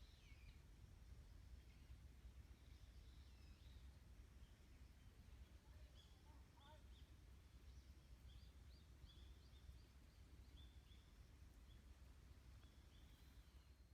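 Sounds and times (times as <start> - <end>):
low rumble of wind: 0.0 - 13.9
birds chirping: 2.6 - 13.9.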